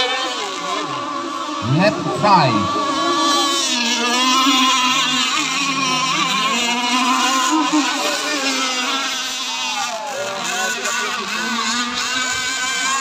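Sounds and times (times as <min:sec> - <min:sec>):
remote-control boat motors whining: 0:00.0 - 0:13.0.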